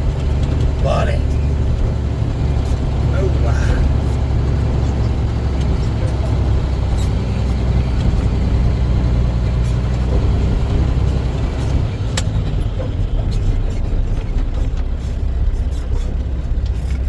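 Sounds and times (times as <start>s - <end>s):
truck engine droning: 0.0s - 17.0s.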